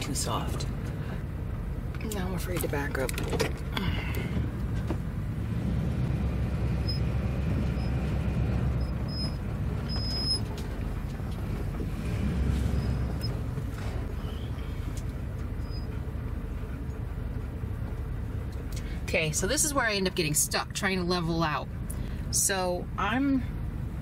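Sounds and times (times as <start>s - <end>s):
motorhome engine running: 0.0s - 24.0s.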